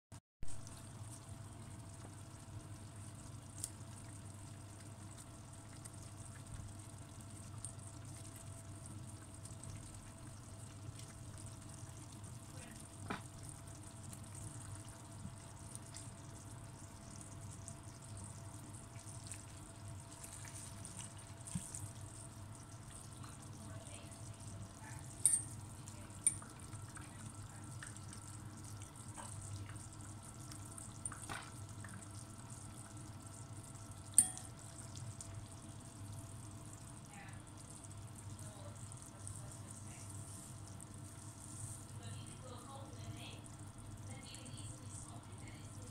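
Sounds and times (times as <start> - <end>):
steady low hum: 0.4 - 45.9.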